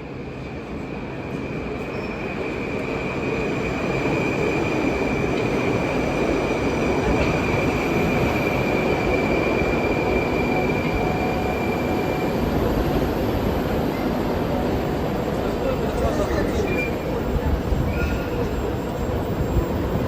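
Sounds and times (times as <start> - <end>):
train rumbling through tunnel: 0.0 - 20.0.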